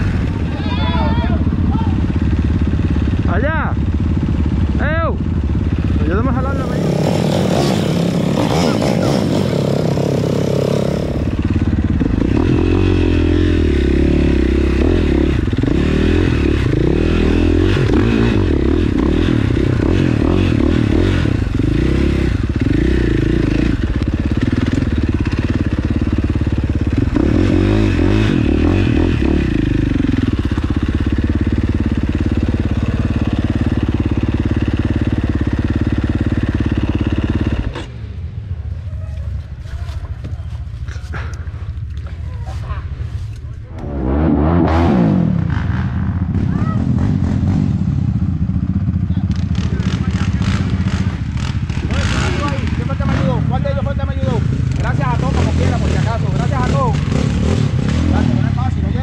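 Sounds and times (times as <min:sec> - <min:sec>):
engine revving: 0:05.7 - 0:38.0, 0:43.7 - 0:59.0.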